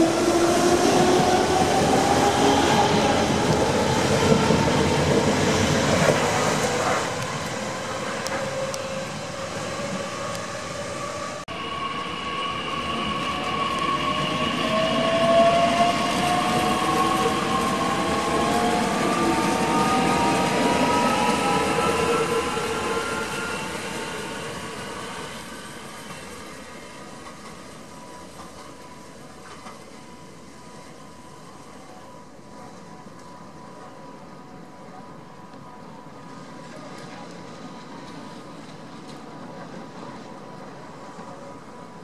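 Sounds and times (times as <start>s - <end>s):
electric train rumbling past: 0.0s - 42.0s.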